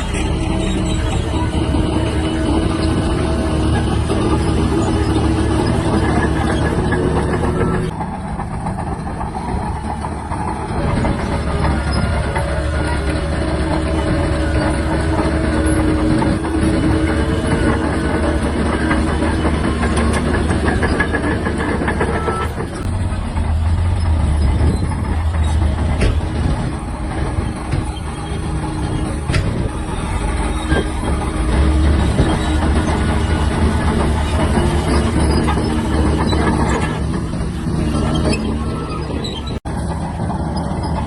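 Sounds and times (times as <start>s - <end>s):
bulldozer diesel engine: 0.0s - 41.0s
steel tracks clanking: 0.0s - 41.0s.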